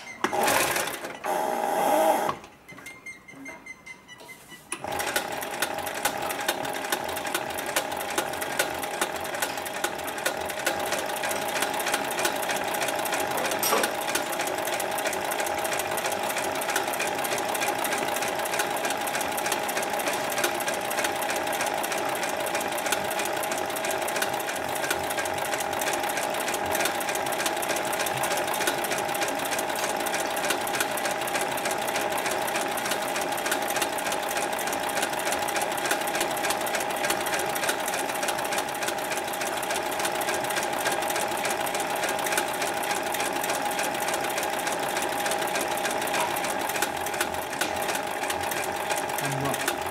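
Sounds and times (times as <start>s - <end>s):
sewing machine motor hum: 0.2s - 2.4s, 4.8s - 49.9s
sewing machine needle clatter: 4.8s - 49.9s.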